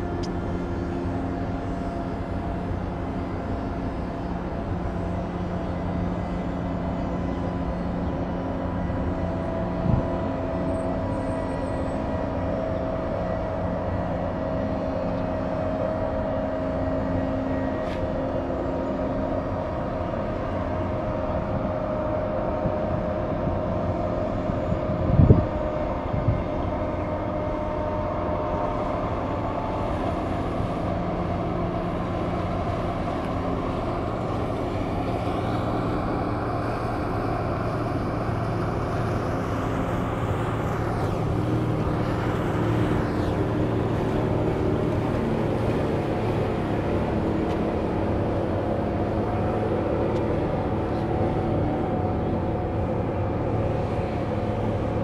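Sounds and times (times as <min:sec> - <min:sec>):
ship engine drone: 0:00.0 - 0:55.0
thin whine: 0:00.0 - 0:55.0.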